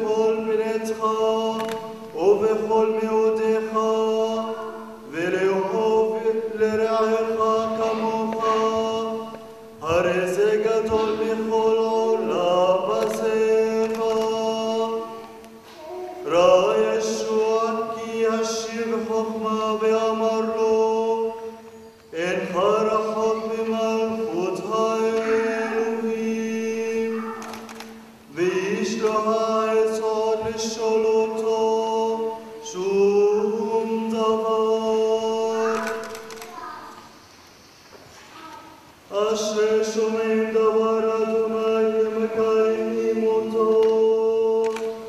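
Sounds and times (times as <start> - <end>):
man chanting: 0.0 - 27.7, 28.3 - 36.8, 39.1 - 45.0.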